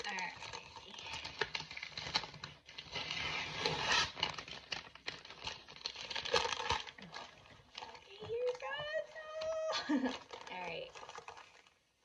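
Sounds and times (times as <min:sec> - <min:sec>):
paper tearing and crinkling: 0:00.0 - 0:11.8.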